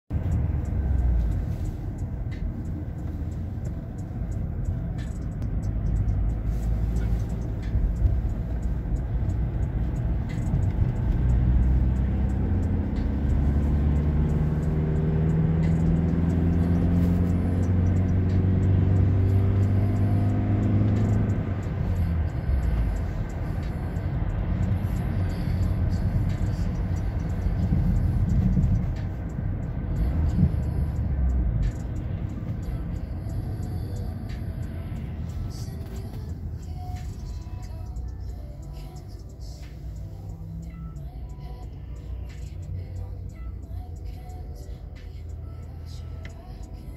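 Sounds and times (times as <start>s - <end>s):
car engine accelerating: 0.1s - 46.9s
road noise inside car: 0.1s - 46.9s.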